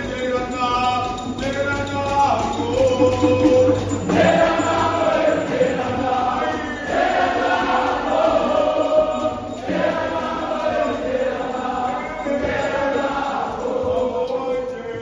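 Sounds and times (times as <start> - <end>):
group singing in unison: 2.9 - 15.0.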